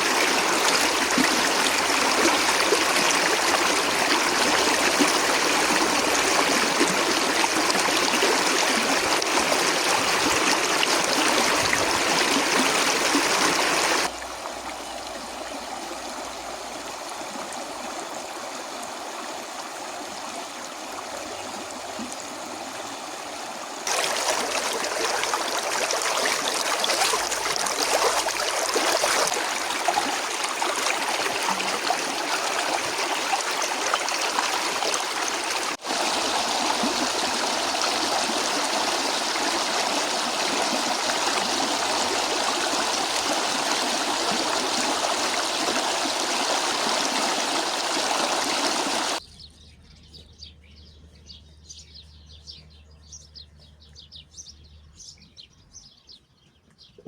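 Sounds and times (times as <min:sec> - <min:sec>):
stream water rushing: 0:00.0 - 0:49.2.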